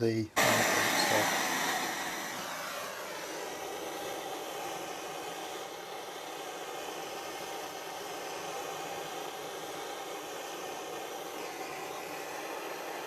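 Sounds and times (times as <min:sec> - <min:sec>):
gas blow lamp hissing: 0:00.0 - 0:13.0.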